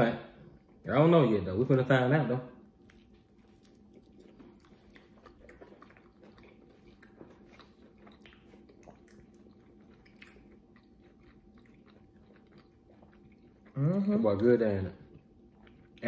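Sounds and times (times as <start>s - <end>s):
low steady hum: 0.0s - 16.0s
people chewing pizza: 0.0s - 16.0s.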